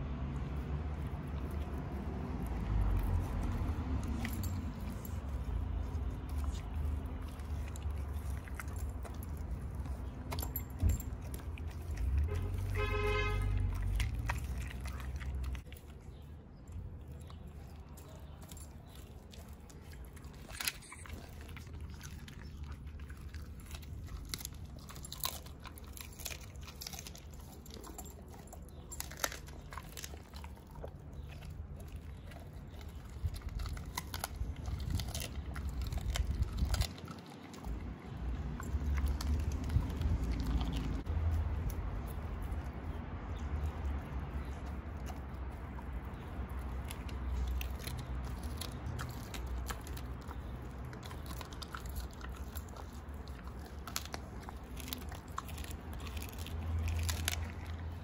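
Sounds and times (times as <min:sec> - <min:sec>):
dog chewing bones crunching: 0:00.4 - 0:58.0.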